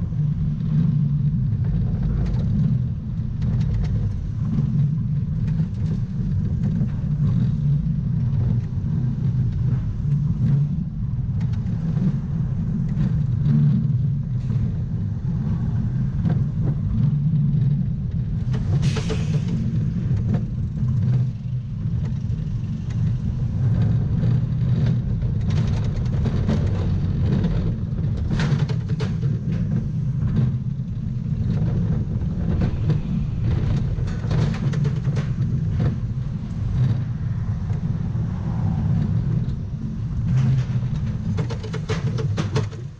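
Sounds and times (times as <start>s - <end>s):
coaster car rattling and knocking: 0.0s - 42.9s
coaster wheels rumbling on track: 0.0s - 42.9s.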